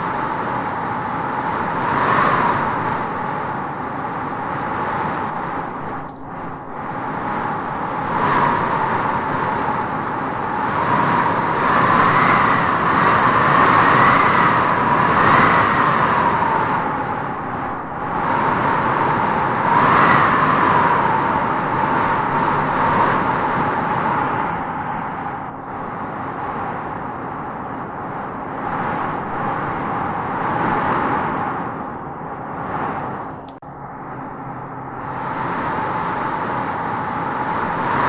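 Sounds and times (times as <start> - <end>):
wind howling in gusts: 0.0 - 38.0.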